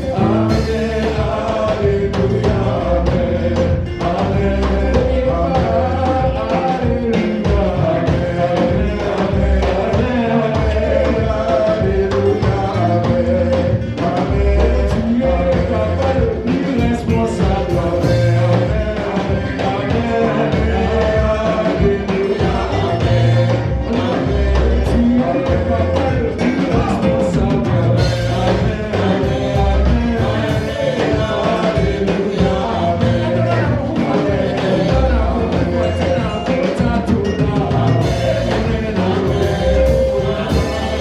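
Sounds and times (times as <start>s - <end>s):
bass: 0.0s - 41.0s
drums keeping a steady beat: 0.0s - 41.0s
gospel band playing: 0.0s - 41.0s
singing: 0.0s - 41.0s.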